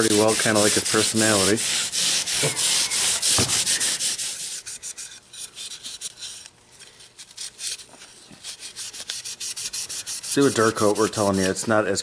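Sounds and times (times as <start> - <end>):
abrasive pad scrubbing metal: 0.0 - 6.5, 7.2 - 11.6.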